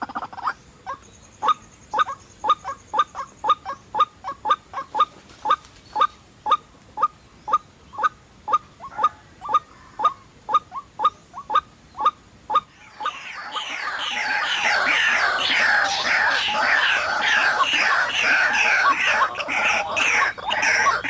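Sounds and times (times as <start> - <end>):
chorus of overlapping bird calls: 0.0 - 21.0
waterhen clucking calls: 0.0 - 21.0.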